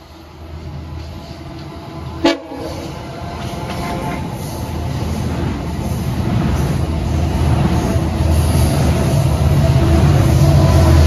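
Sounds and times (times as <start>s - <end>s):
diesel locomotive droning: 0.0s - 11.0s.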